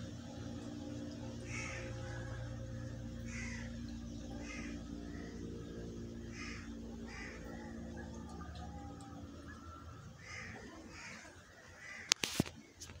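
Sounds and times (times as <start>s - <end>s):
low hum: 0.0s - 12.2s
harsh bird calls: 1.4s - 12.8s.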